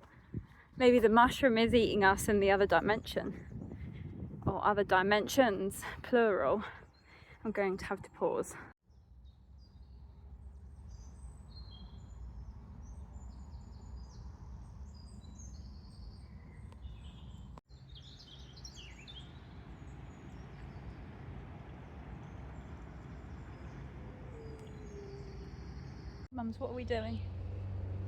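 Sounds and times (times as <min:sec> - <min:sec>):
songbirds chirping and trilling: 0:00.1 - 0:27.2.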